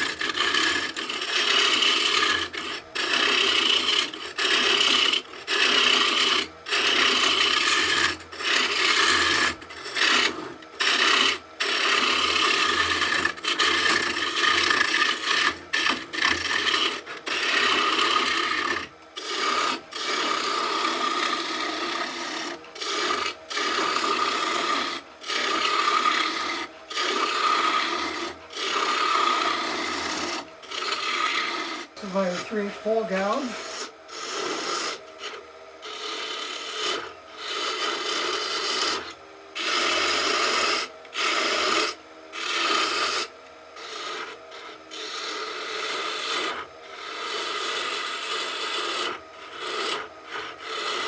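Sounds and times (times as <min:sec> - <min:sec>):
lathe gouge rasping wood: 0:00.0 - 0:51.0.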